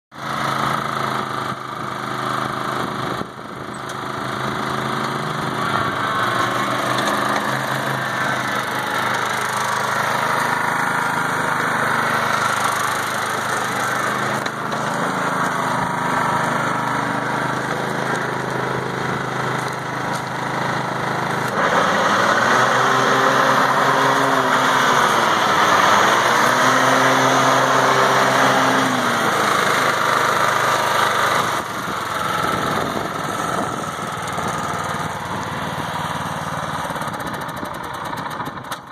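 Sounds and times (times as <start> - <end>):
riding mower engine running: 0.1 - 38.9.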